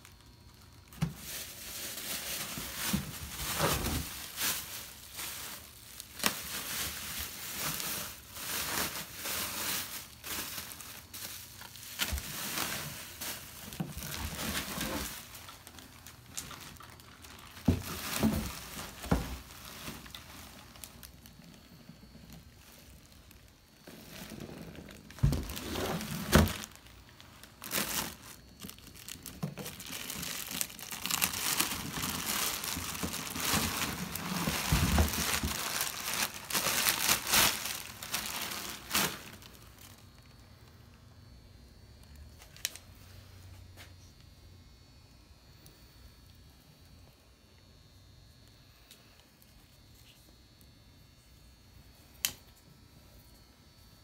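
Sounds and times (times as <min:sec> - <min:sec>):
bubble wrap and plastic crinkling: 0:00.0 - 0:41.1, 0:42.0 - 0:44.2, 0:48.3 - 0:51.3.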